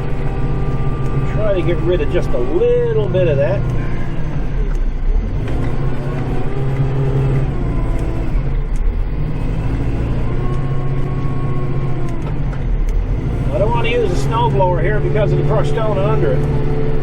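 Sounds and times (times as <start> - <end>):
tractor diesel engine: 0.0 - 17.0.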